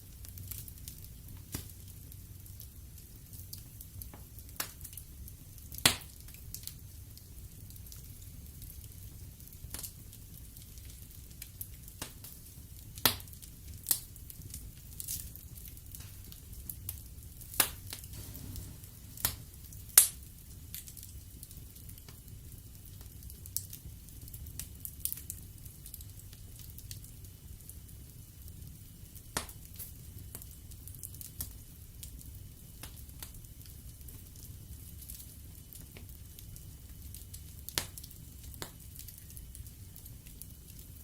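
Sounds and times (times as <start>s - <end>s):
fire crackling and popping: 0.0s - 41.0s
low rumble of flame: 0.0s - 41.0s.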